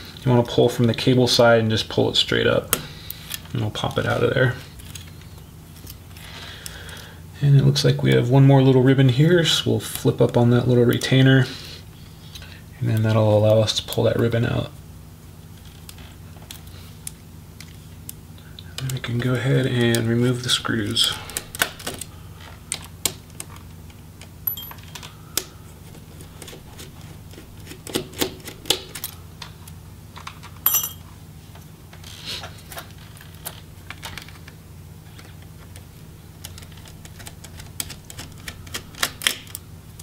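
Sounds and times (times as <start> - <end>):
steady low hum: 0.0 - 27.9, 28.6 - 40.0.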